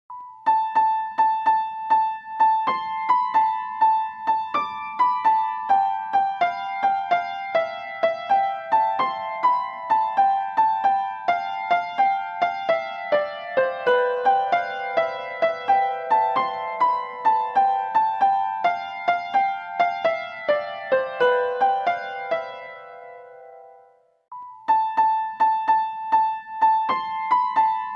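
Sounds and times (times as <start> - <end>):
simple piano melody: 0.1 - 27.9.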